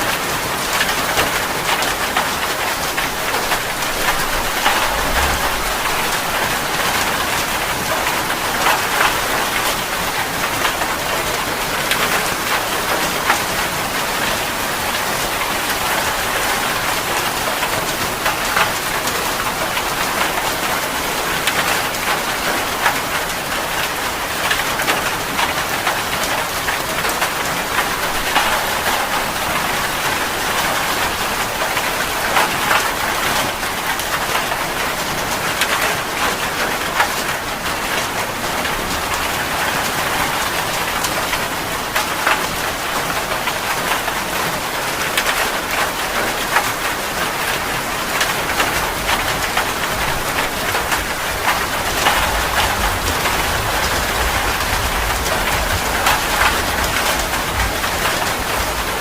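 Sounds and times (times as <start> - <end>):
raindrops hitting a surface: 0.0 - 59.0
steady rain falling: 0.0 - 59.0.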